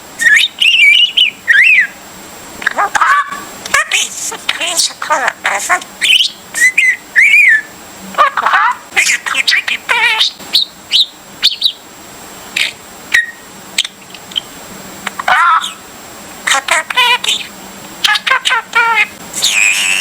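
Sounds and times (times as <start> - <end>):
pet bird singing: 0.1 - 2.0, 2.6 - 11.9, 12.5 - 15.8, 16.5 - 20.0.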